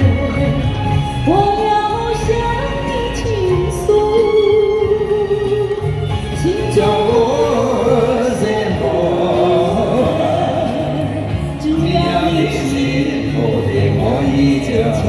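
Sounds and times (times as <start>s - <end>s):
backing track with bass line: 0.0s - 15.0s
person singing: 0.0s - 15.0s.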